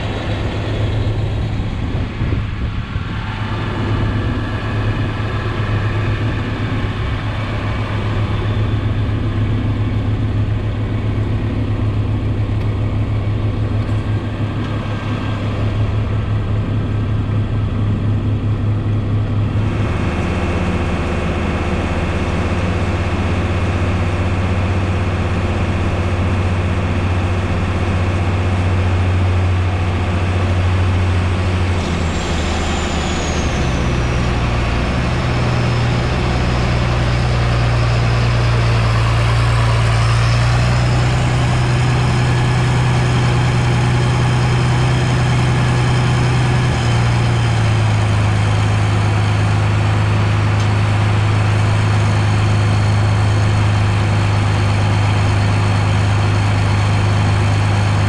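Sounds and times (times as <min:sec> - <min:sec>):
steady high whine: 0:00.0 - 0:58.0
tractor diesel engine droning: 0:00.0 - 0:58.0.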